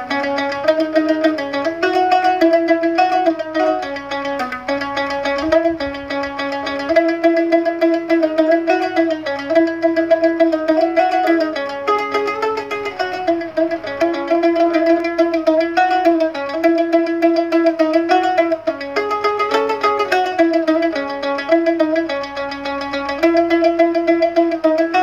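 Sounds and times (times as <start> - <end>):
plucked string tremolo melody: 0.0 - 25.0.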